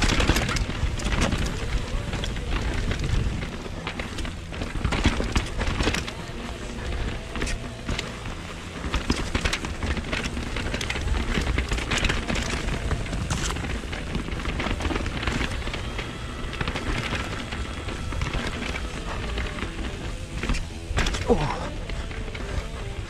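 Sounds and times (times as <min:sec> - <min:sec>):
bike rattling: 0:00.0 - 0:23.0
tyres clattering over stones: 0:00.0 - 0:23.0.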